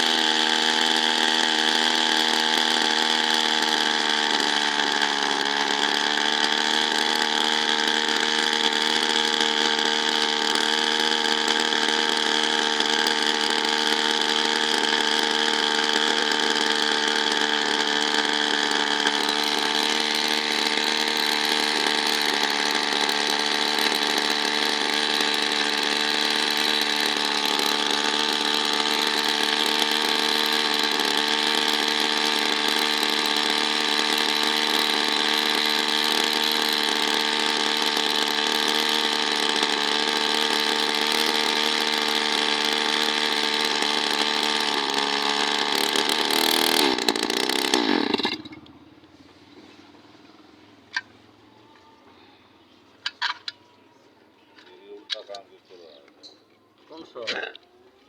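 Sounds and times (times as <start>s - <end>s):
small two-stroke engine running: 0.0s - 58.0s.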